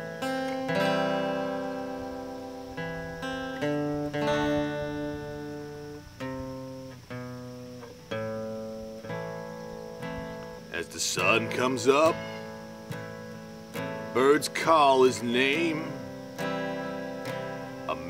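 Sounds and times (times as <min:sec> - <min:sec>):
acoustic guitar chords ringing: 0:00.0 - 0:18.0.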